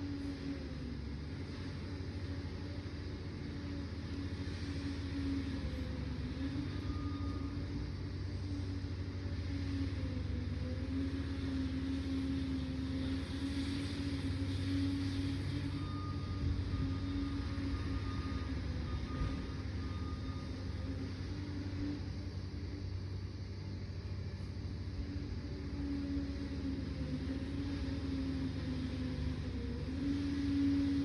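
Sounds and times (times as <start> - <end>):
dozer diesel engine running: 0.0 - 31.0.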